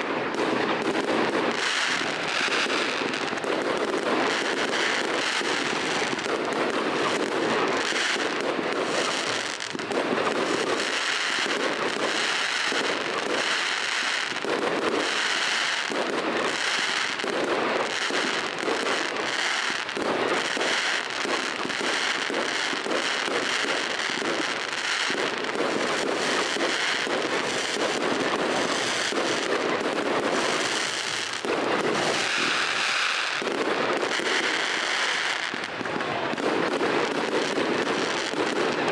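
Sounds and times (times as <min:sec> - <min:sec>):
fireworks bangs and pops: 0:00.0 - 0:38.9.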